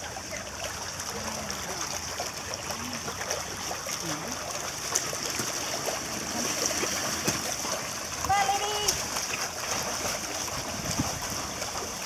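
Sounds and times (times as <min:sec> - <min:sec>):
water lapping and trickling: 0:00.0 - 0:12.0.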